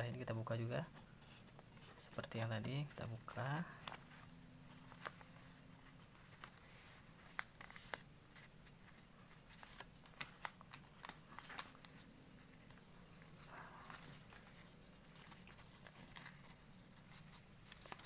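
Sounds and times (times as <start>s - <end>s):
paper rustling: 0.9s - 18.0s.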